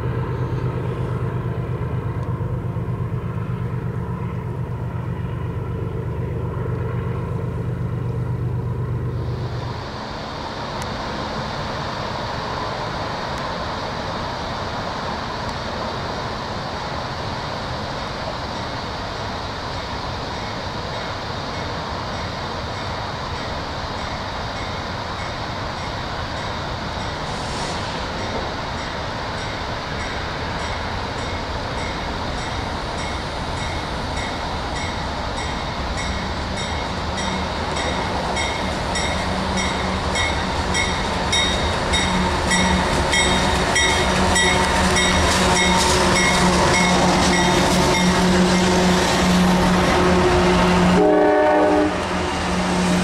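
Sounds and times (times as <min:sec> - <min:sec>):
freight train rumbling: 0:00.0 - 0:53.0.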